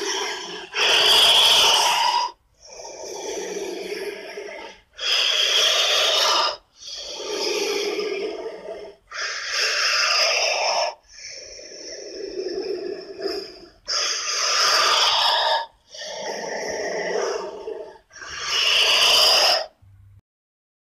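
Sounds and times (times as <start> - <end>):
monster hissing calls: 0.0 - 19.8.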